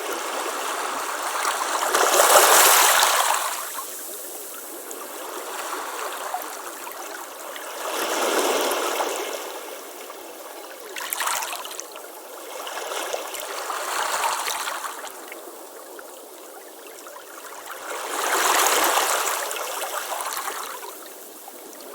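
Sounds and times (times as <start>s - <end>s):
waves washing over pebbles: 0.0s - 15.7s, 17.6s - 21.9s.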